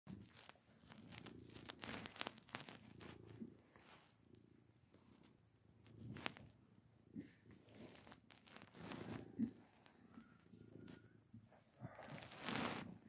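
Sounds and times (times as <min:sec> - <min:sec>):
hand rustling over fur: 0:00.1 - 0:04.4, 0:05.0 - 0:13.0
cat purring softly: 0:00.1 - 0:13.0.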